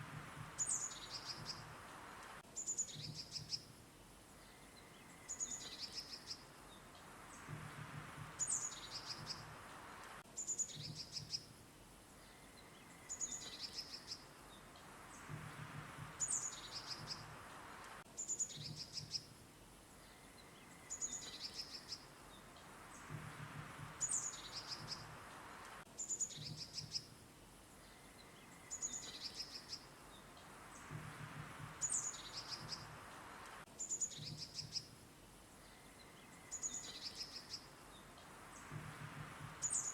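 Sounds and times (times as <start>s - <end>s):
small songbirds chirping: 0.0s - 39.9s
soft hiss: 0.0s - 39.9s.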